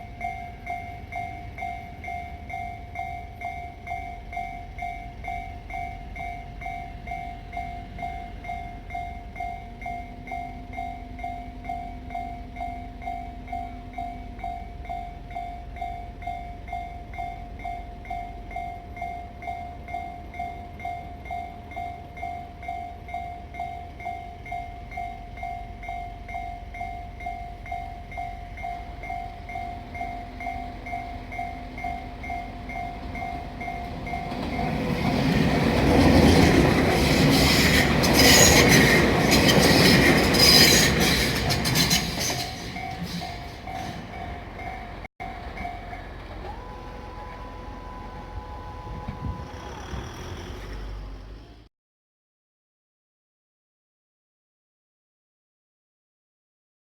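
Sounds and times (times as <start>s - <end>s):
train passing: 0.0s - 51.7s.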